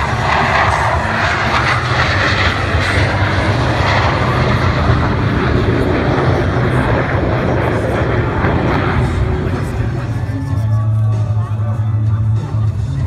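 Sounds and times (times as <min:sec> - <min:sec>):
jet engines flying overhead: 0:00.0 - 0:13.0.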